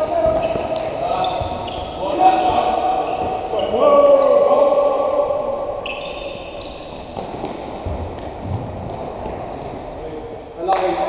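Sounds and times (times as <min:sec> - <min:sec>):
shoes squeaking on hall floor: 0:00.0 - 0:10.7.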